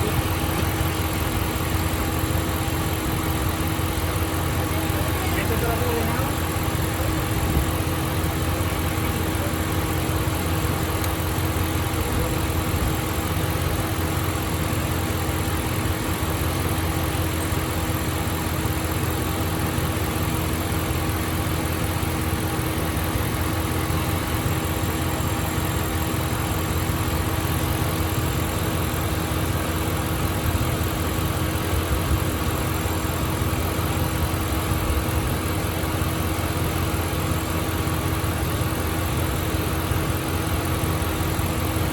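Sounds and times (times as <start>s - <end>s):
engine idling: 0.0s - 41.9s.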